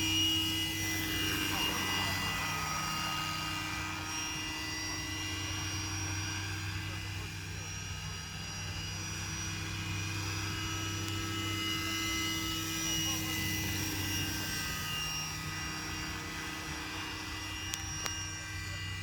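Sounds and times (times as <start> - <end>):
model helicopter low hum: 0.0 - 19.0
rotor high whines: 0.0 - 19.0.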